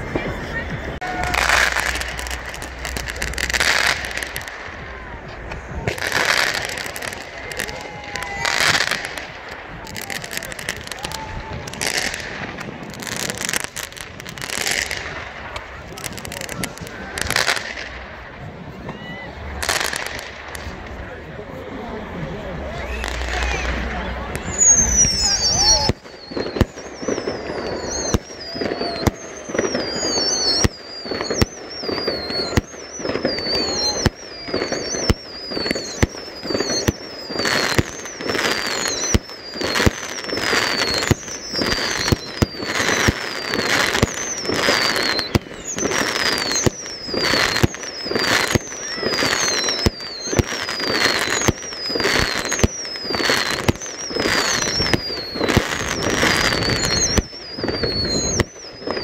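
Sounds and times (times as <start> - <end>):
firework whistles: 0.0 - 59.0
fireworks crackling: 0.0 - 59.0.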